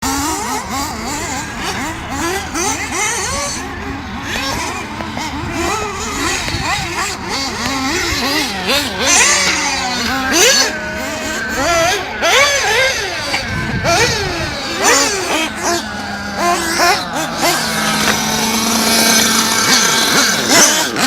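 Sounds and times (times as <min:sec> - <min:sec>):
rc car engines revving: 0:00.0 - 0:21.0.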